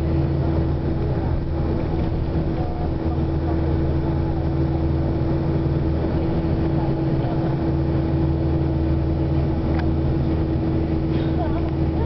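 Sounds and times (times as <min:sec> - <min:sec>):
vehicle cabin engine and road drone: 0:00.0 - 0:12.0.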